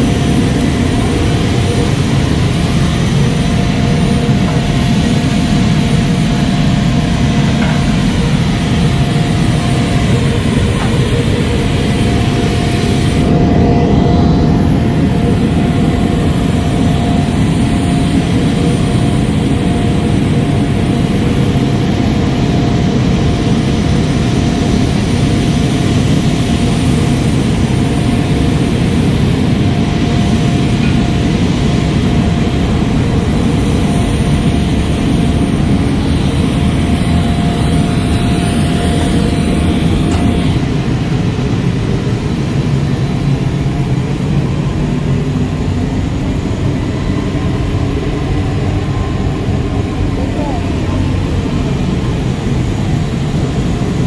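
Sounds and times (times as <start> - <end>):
jet engine rumble with whine: 0.0 - 54.0.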